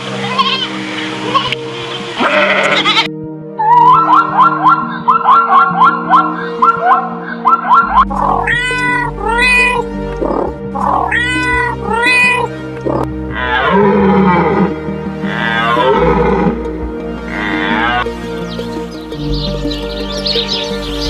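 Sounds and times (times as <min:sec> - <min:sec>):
background music: 0:00.0 - 0:21.0
animal calls: 0:00.1 - 0:16.7, 0:17.3 - 0:18.1.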